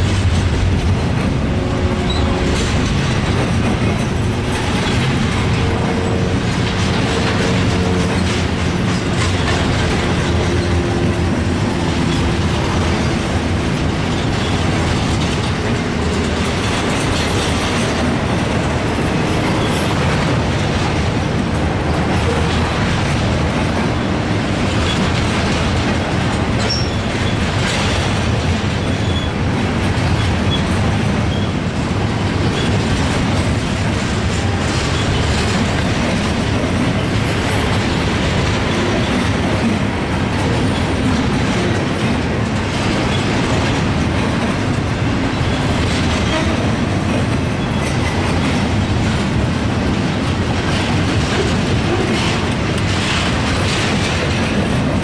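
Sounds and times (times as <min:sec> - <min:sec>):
clickety-clack over rail joints: 0:00.0 - 0:55.0
freight train wheels rumbling: 0:00.0 - 0:55.0.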